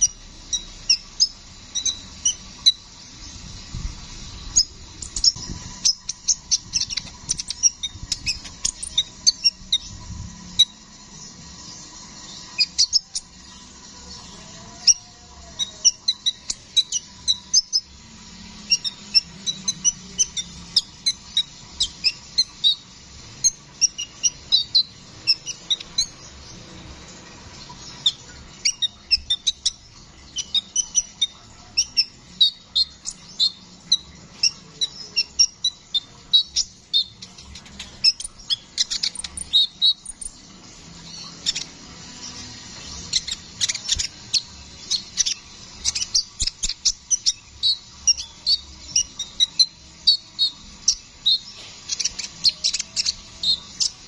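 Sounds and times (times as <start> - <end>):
bird chirping and twittering: 0.0 - 54.0.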